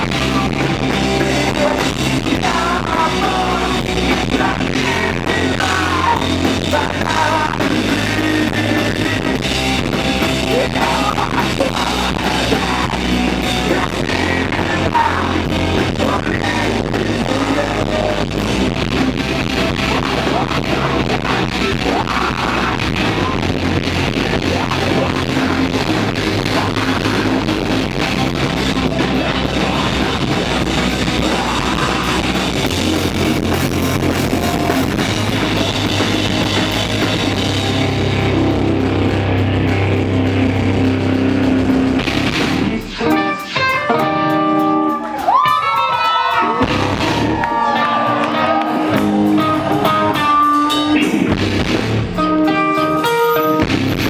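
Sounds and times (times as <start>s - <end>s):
person singing: 0.0s - 35.7s, 42.6s - 51.4s
rock band playing live: 0.0s - 54.0s.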